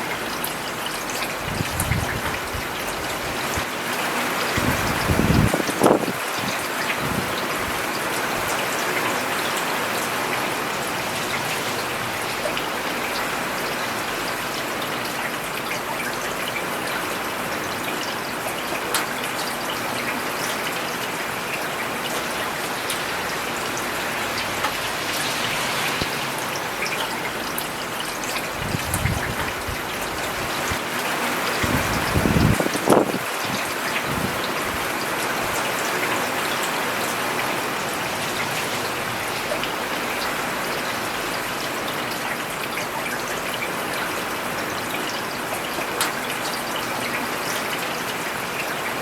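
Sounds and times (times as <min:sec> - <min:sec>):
rain on paved road: 0:00.0 - 0:49.0.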